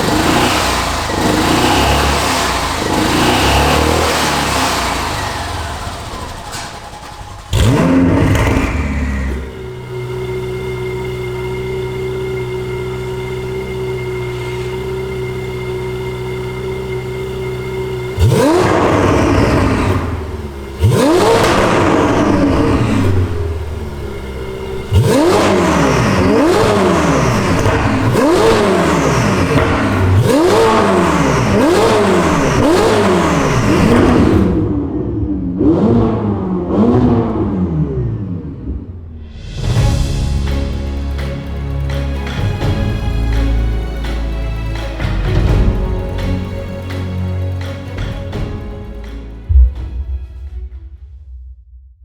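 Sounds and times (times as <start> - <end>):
engine revving: 0.0 - 49.8
car engine idling: 0.0 - 50.2.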